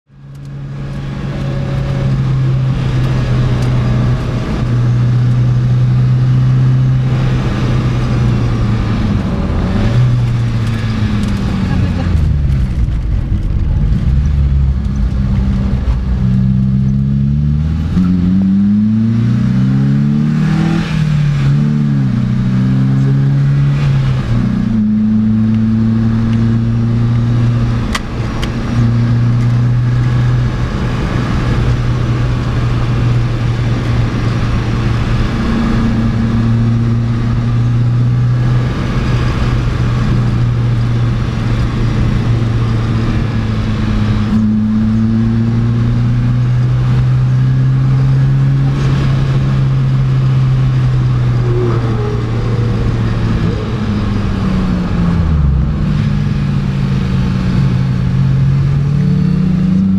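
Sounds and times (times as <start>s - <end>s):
road noise: 0.0s - 59.9s
sports car engine accelerating: 0.1s - 59.9s
rushing wind: 0.2s - 59.7s.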